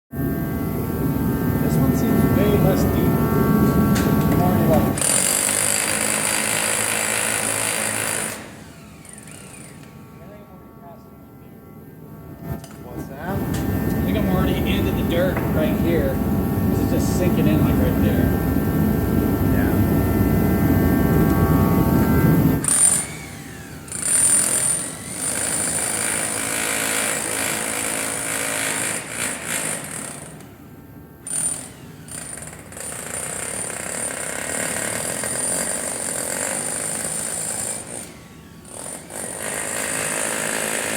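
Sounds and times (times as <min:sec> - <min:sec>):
jackhammer running: 0:01.5 - 0:10.5, 0:13.3 - 0:18.4, 0:19.1 - 0:30.6, 0:31.2 - 0:40.9.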